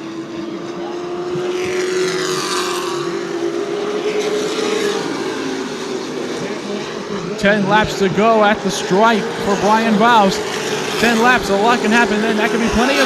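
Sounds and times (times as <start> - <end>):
race truck engines running: 0.0 - 13.0.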